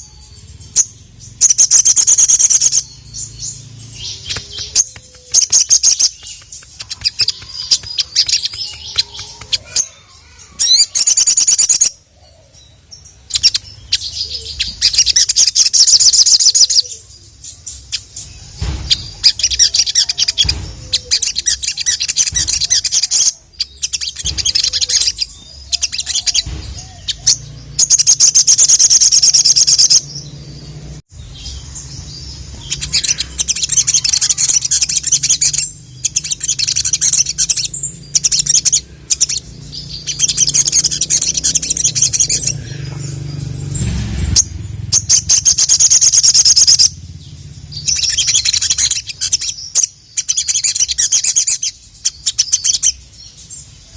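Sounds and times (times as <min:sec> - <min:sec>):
bird singing rapid high notes: 0:00.0 - 0:53.9.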